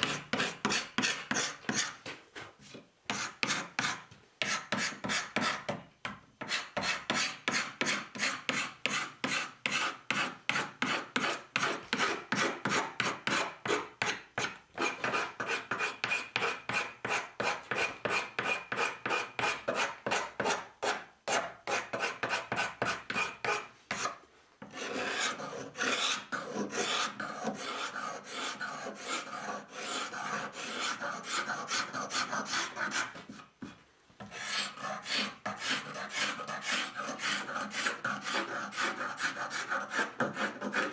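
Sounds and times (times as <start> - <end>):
hand tool rasping wood: 0.0 - 2.1, 6.4 - 33.5, 34.2 - 40.9.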